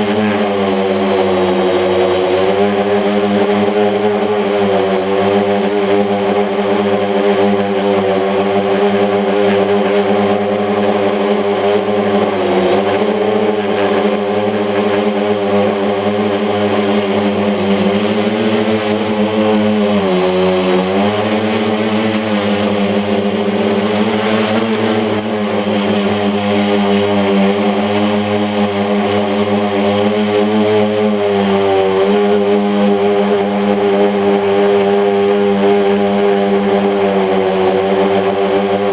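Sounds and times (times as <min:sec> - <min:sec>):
drone motors buzzing whine: 0:00.0 - 0:38.9.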